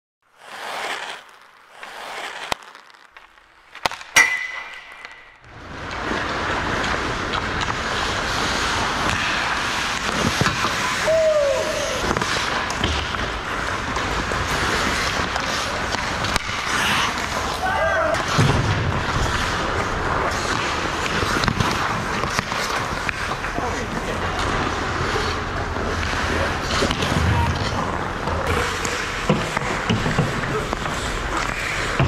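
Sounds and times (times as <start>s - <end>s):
skates scraping ice: 0.2s - 32.0s
stick and puck clatter: 0.4s - 32.0s.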